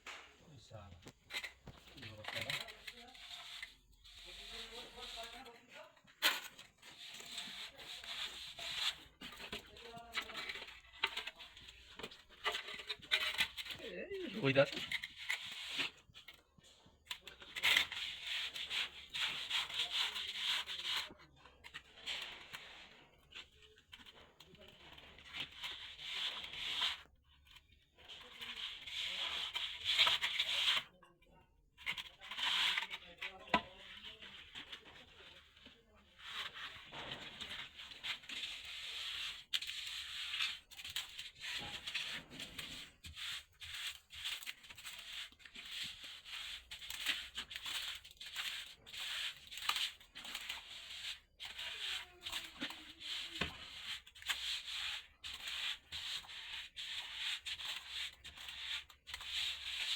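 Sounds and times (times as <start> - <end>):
plastering tool scraping wall: 0.1 - 31.0, 31.8 - 59.9.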